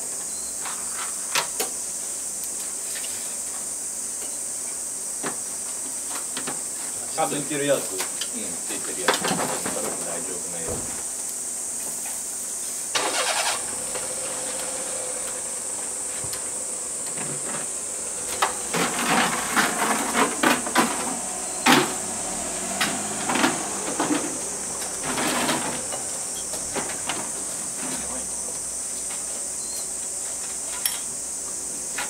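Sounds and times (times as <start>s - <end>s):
cicadas droning: 0.0s - 32.0s.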